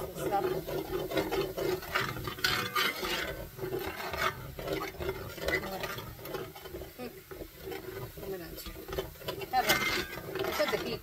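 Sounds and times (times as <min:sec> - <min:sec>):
utensil scraping a pan: 0:00.0 - 0:11.0.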